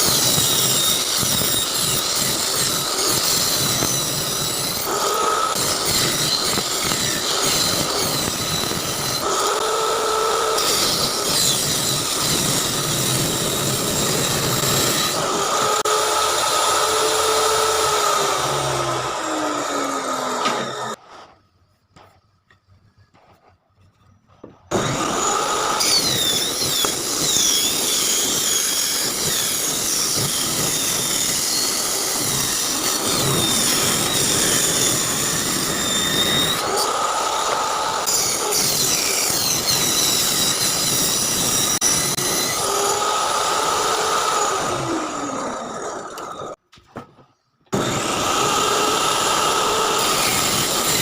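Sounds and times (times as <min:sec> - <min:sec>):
power tool cutting wood: 0:00.0 - 0:21.0, 0:24.7 - 0:46.6, 0:47.7 - 0:51.0.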